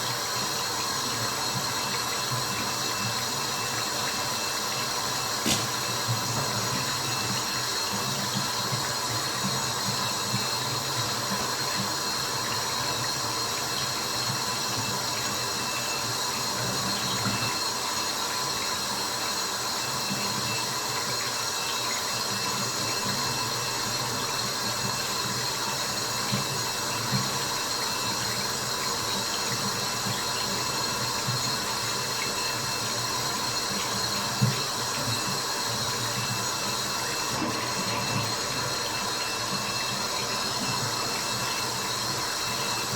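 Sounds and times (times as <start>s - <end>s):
steady watery hiss: 0.0s - 42.9s.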